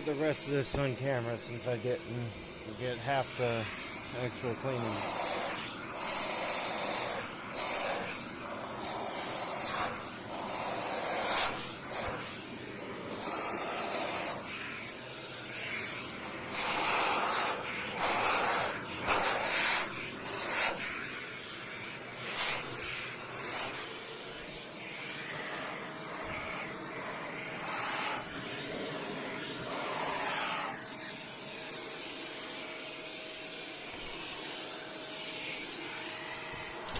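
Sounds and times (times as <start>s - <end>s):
vacuum cleaner sucking air: 0.0s - 36.9s.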